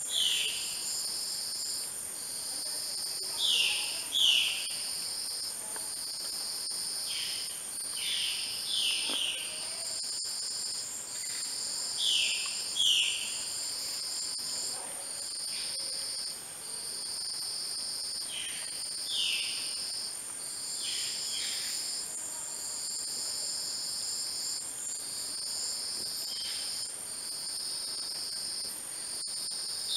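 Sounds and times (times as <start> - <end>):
pulsing insect trill: 0.0 - 29.9
high-pitched insect buzz: 0.1 - 29.9.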